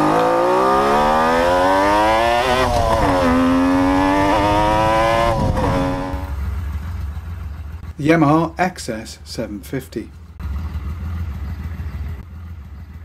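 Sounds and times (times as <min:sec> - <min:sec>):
motorcycle engine revving: 0:00.0 - 0:08.5, 0:10.2 - 0:13.0.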